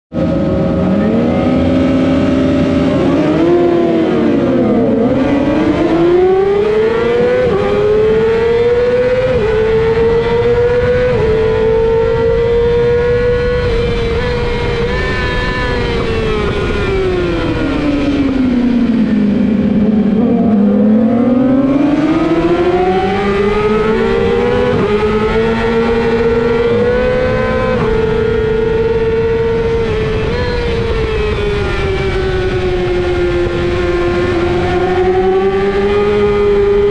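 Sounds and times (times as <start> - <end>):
motorcycle engine revving: 0.1 - 36.9.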